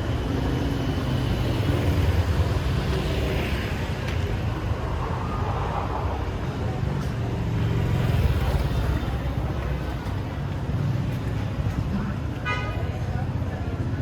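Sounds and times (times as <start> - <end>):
motorbikes and cars passing: 0.0 - 14.0
traffic rumble: 0.0 - 14.0.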